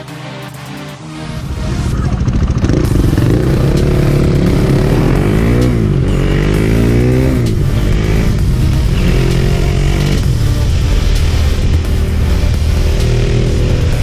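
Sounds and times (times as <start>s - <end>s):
motorcycle engine accelerating: 1.2s - 14.0s.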